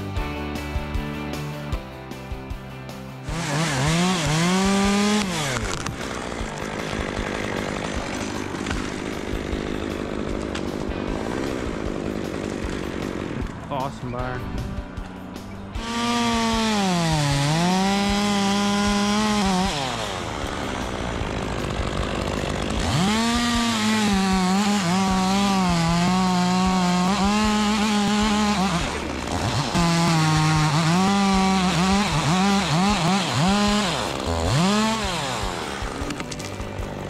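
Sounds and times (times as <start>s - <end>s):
chainsaw cutting through wood: 3.2s - 13.9s, 14.8s - 37.0s.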